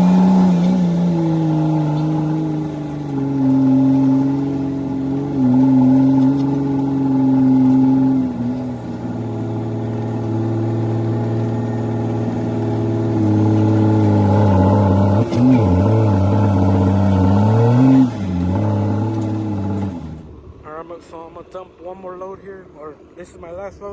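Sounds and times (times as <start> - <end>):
diesel truck engine under load: 0.0 - 23.9.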